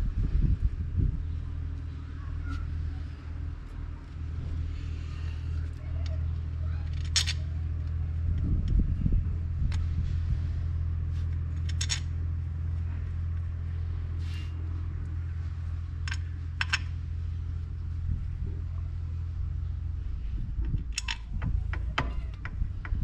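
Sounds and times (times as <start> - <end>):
tractor diesel engine idling: 0.0 - 23.0.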